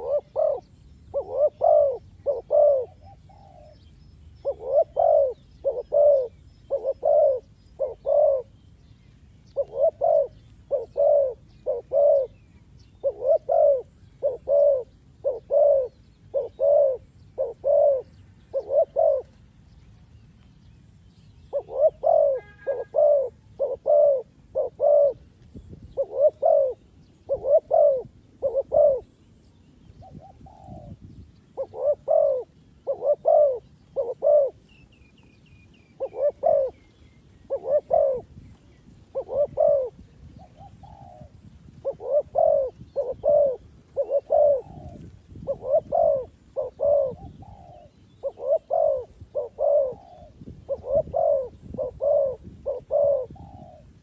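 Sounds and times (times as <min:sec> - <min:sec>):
dove cooing: 0:00.0 - 0:08.8, 0:09.5 - 0:19.6, 0:21.4 - 0:34.9, 0:35.7 - 0:54.0.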